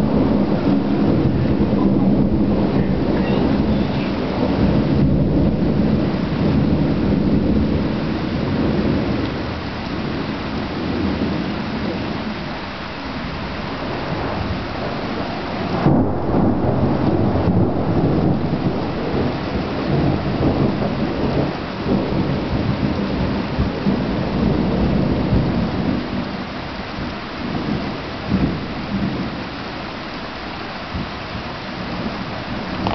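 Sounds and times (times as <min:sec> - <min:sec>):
thunder rumbling: 0:00.0 - 0:29.6, 0:30.9 - 0:32.9
steady rain: 0:00.0 - 0:32.9.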